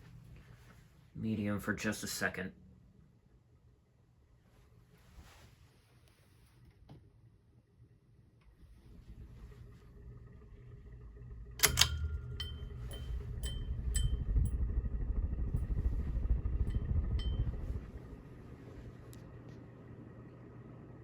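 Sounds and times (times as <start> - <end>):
ceiling fan rumbling: 0.0 - 21.0.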